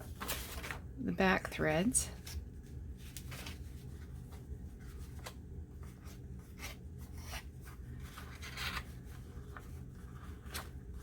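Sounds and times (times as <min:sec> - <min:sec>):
paper rustling: 0:00.0 - 0:00.8, 0:02.2 - 0:11.0.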